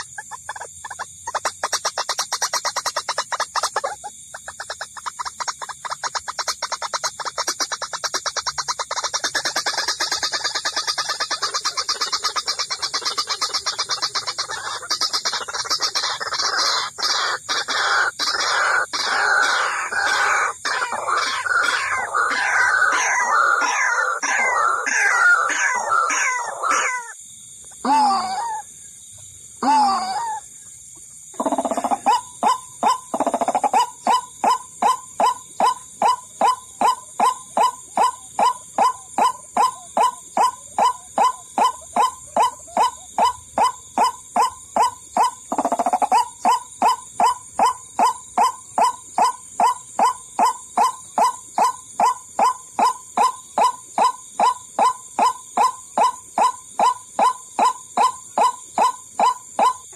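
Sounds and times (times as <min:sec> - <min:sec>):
waterhen pulsing calls: 0:00.0 - 0:27.2, 0:31.4 - 0:59.9.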